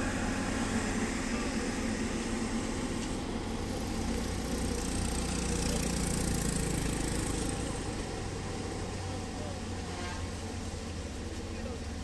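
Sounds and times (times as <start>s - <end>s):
heavy vehicle engine idling: 0.0s - 12.0s.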